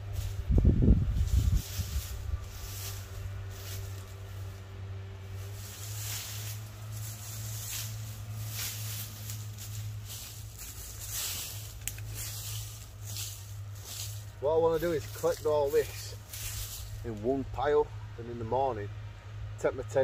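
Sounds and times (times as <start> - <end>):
hands rustling dry leaves: 0.0 - 17.6
distant tractor droning: 0.0 - 20.0.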